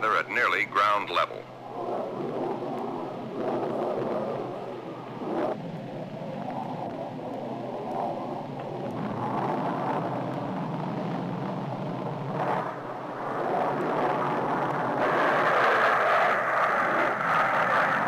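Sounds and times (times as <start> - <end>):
jet aircraft rushing noise: 0.0 - 18.0.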